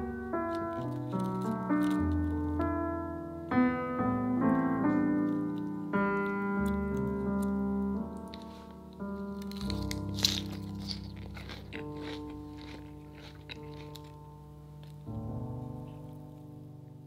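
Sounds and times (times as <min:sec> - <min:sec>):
piano chords over bass notes: 0:00.0 - 0:17.0.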